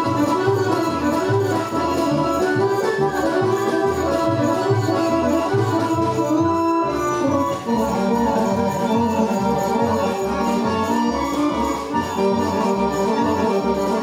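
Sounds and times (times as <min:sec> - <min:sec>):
folk orchestra playing dance tune: 0:00.0 - 0:14.0.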